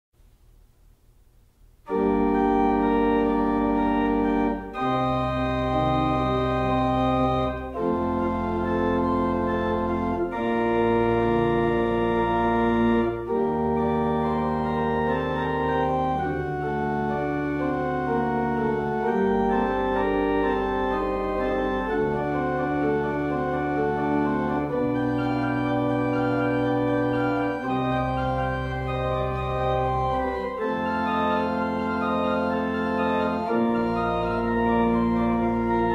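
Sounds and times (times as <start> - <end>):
organ playing slow chords: 1.8 - 35.9.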